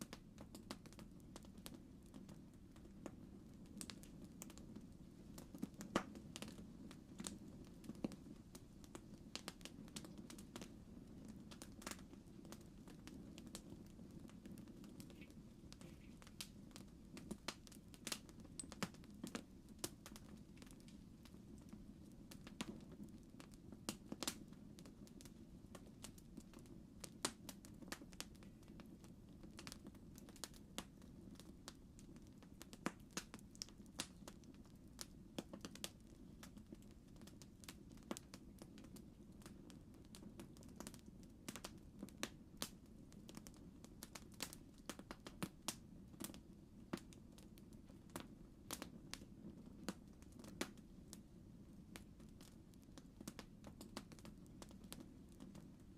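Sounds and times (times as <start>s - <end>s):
fire pops and snaps: 0.0s - 50.9s, 51.8s - 55.8s
campfire crackling: 0.0s - 55.9s.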